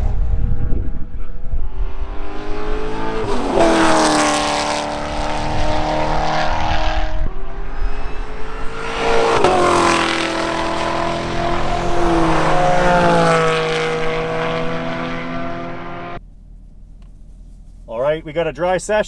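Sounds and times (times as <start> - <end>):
car engine racing: 0.0 - 16.2.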